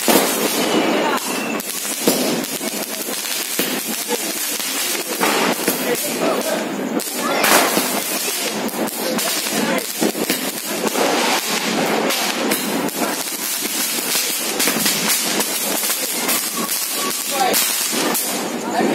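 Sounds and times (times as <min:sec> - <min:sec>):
firework pops and crackles: 0:00.0 - 0:18.9.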